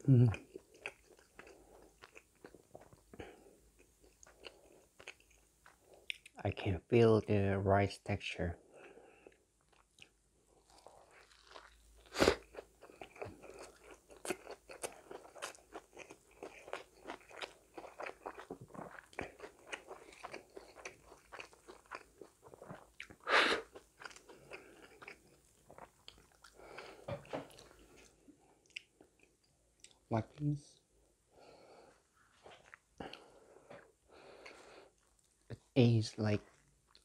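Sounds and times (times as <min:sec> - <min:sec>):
close chewing mouth sounds: 0:00.0 - 0:06.4, 0:09.2 - 0:30.0, 0:32.3 - 0:35.5, 0:36.4 - 0:37.0.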